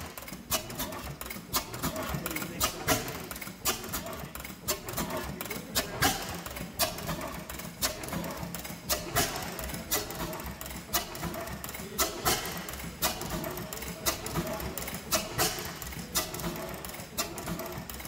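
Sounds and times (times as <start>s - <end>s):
stationary gas engine running: 0.0s - 18.0s.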